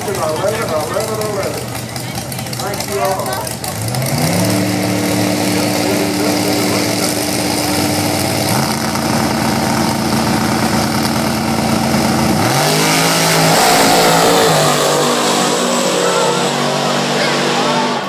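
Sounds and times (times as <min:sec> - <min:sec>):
drag racing car engines revving: 0:00.0 - 0:18.0.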